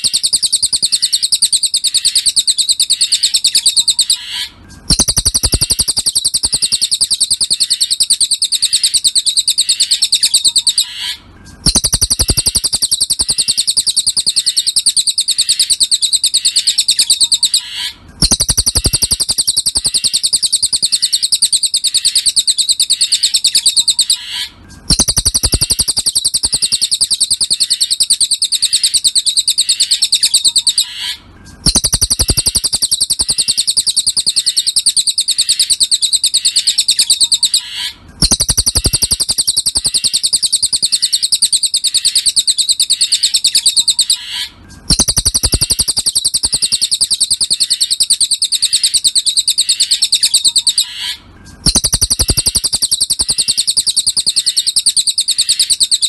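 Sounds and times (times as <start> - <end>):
bird song high-pitched trill: 0.0 - 56.0.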